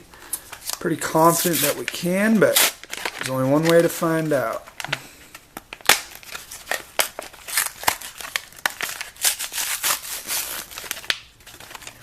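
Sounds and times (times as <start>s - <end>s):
plastic and cardboard crinkling: 0.2s - 12.0s.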